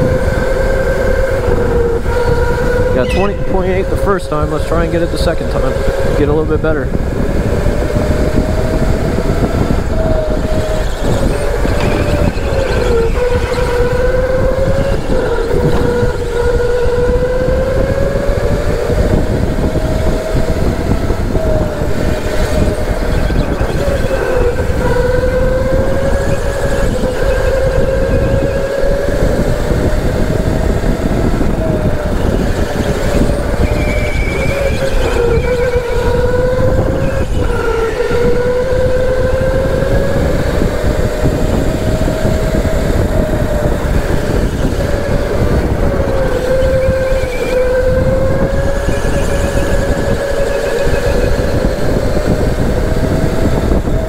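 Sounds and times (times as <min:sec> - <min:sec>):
electric go-kart motor whining: 0:00.0 - 0:54.0
kart rumbling on track: 0:00.0 - 0:54.0.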